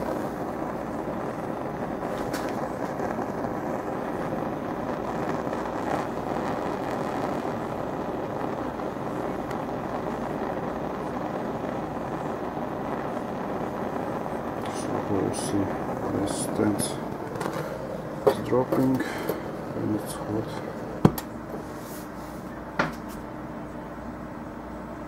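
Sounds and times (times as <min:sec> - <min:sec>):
gas torch hissing: 0:00.0 - 0:23.4.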